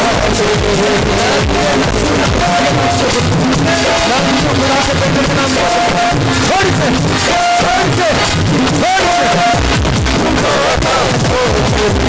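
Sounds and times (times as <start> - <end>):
worship music with drum beat: 0.0 - 12.0.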